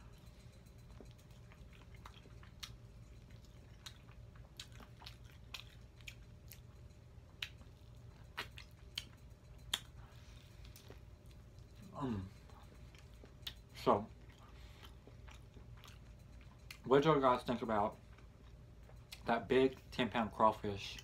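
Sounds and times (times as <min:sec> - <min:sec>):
chewing and biting mouth sounds: 0:00.0 - 0:21.0
faint low hum: 0:00.0 - 0:21.0.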